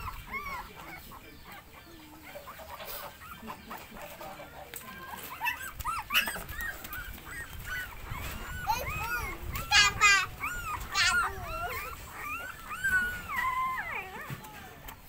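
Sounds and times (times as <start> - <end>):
puppies whimpering: 0.0 - 15.0.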